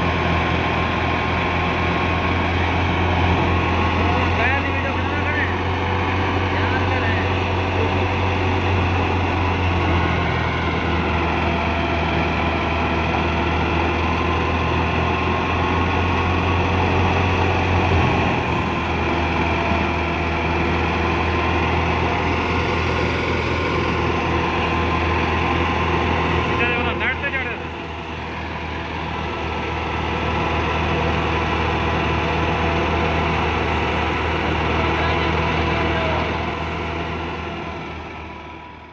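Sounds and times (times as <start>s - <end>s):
thresher drum and fan running: 0.0s - 38.4s
tractor diesel engine running: 0.0s - 38.9s.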